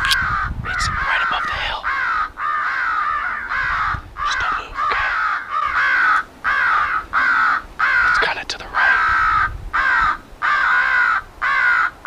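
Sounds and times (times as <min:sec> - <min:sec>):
crow call caws: 0:00.1 - 0:12.0.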